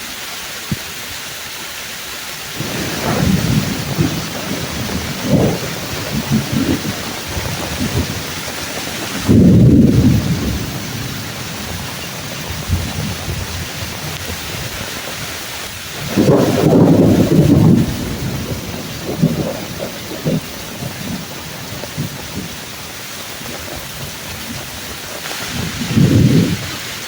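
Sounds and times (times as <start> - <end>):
heavy rain on leaves: 0.0 - 27.0
low thunder rumbles: 2.6 - 27.0.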